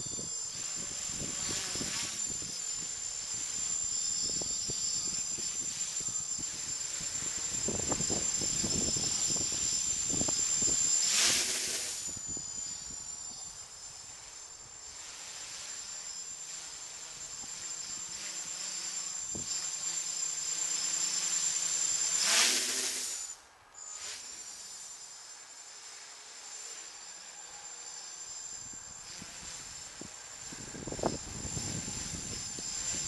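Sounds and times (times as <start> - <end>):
quadcopter propellers buzzing: 0.0 - 33.0.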